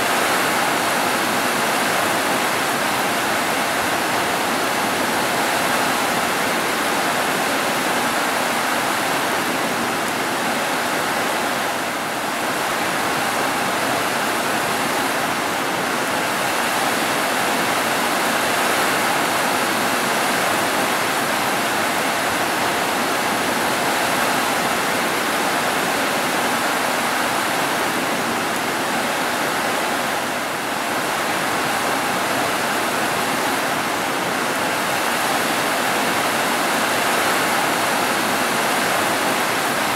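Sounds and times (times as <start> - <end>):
heavy rain on roofs: 0.0 - 39.9.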